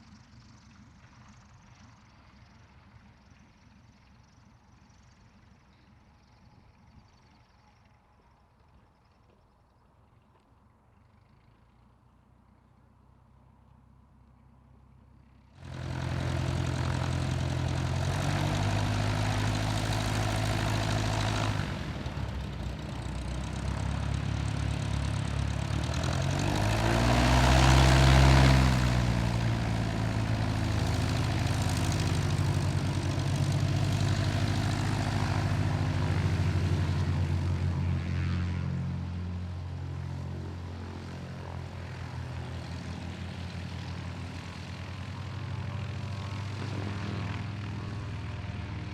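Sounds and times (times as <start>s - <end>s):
propeller aircraft engine: 0.0s - 48.9s.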